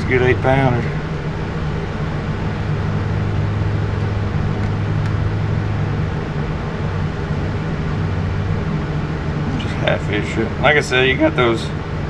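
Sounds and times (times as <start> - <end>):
low machine hum: 0.0 - 12.0
rush of noise: 0.0 - 12.0.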